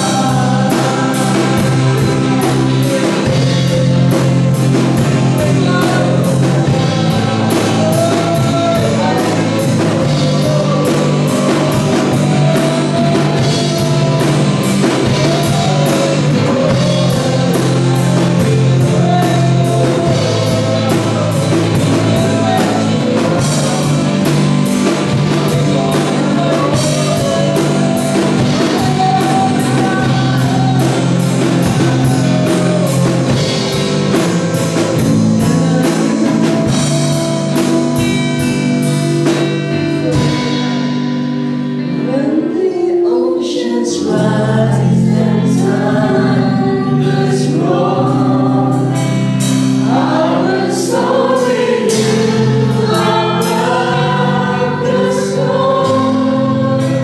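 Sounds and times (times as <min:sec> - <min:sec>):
women singing: 0:00.0 - 0:40.6, 0:42.0 - 0:57.0
gospel band playing: 0:00.0 - 0:57.0.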